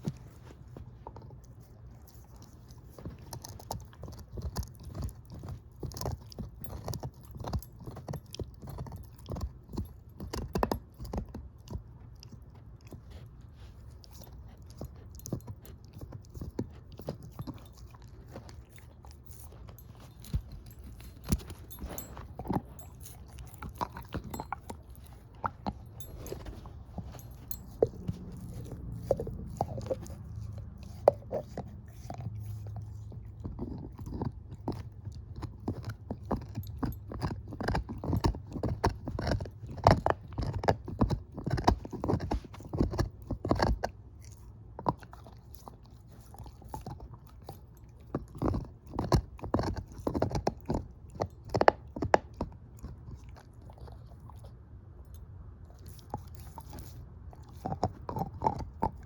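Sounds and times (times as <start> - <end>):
dog chewing bone: 0.0 - 59.0.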